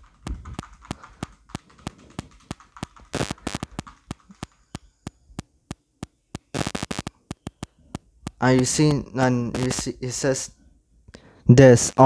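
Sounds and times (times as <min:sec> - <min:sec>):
sharp clicks: 0:00.0 - 0:09.9.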